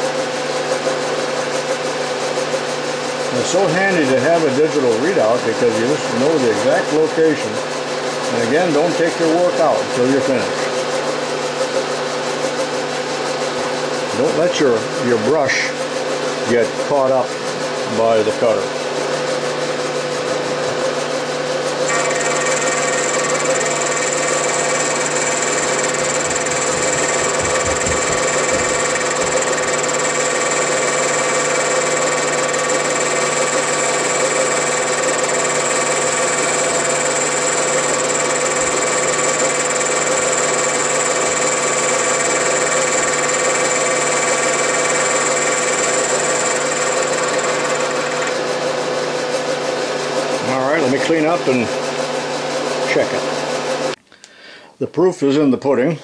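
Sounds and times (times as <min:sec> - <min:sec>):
milling machine humming: 0:00.0 - 0:54.0.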